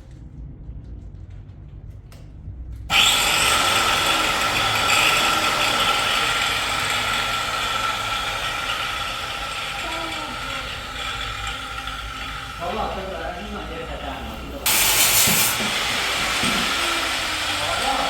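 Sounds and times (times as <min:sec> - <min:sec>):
machine whining: 0:02.9 - 0:18.0.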